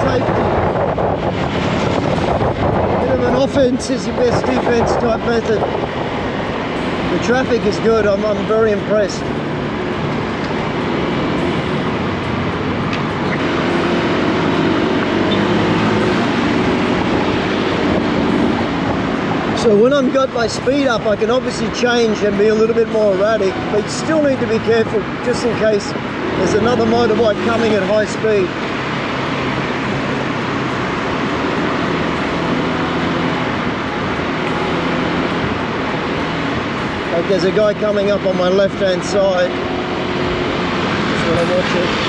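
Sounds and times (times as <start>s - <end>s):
scooter engine drone: 0.0s - 42.0s
wind and road noise: 0.0s - 42.0s.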